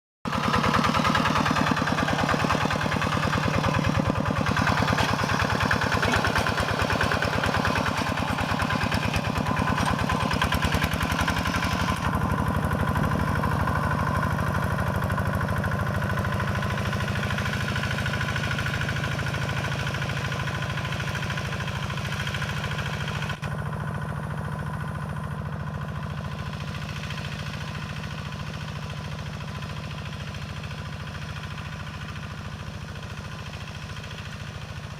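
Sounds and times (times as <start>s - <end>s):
diesel engine chugging: 0.3s - 34.9s.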